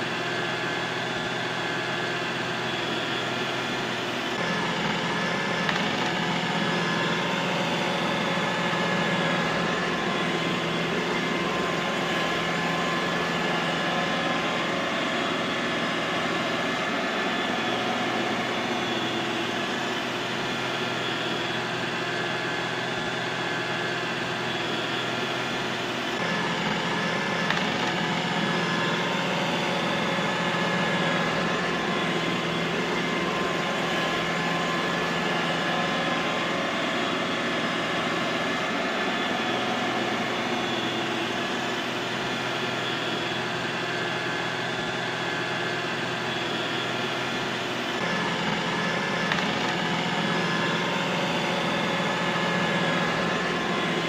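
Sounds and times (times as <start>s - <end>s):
robot vacuum cleaner whirring: 0.0s - 54.0s.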